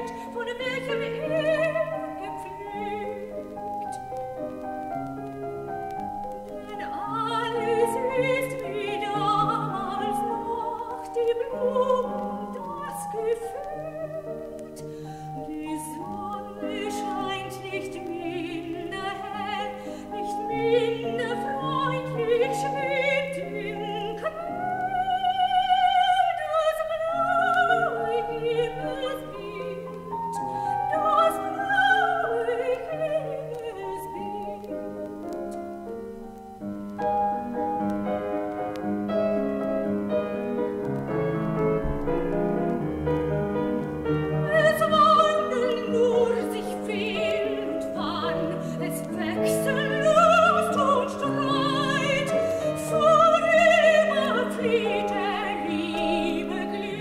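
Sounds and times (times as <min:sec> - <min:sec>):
piano accompaniment: 0:00.0 - 0:57.0
soprano singing: 0:00.0 - 0:57.0.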